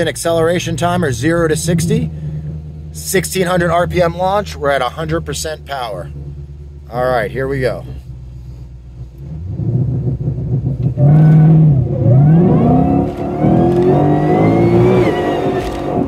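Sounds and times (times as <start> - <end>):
supercharger whine: 0.0 - 16.0
car engine revving and accelerating: 0.8 - 6.9, 9.0 - 16.0.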